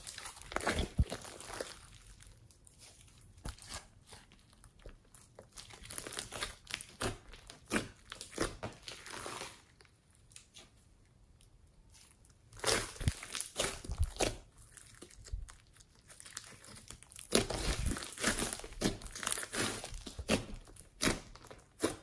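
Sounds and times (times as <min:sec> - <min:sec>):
slime crackling and popping: 0:00.0 - 0:10.8, 0:11.4 - 0:22.0.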